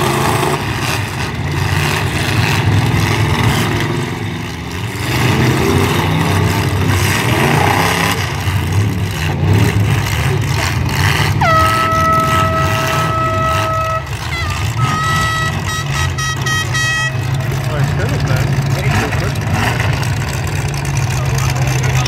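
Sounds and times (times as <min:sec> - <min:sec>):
car engines revving loudly: 0:00.0 - 0:22.0.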